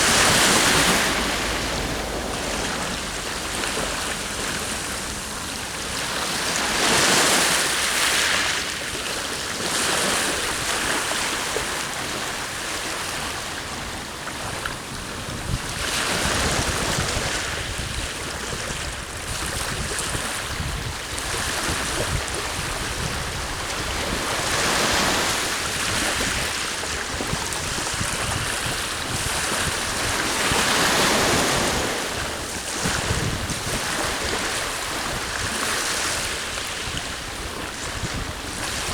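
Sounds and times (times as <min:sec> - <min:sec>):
sea waves breaking on shore: 0:00.0 - 0:38.9
wind blowing across microphone: 0:00.0 - 0:38.9.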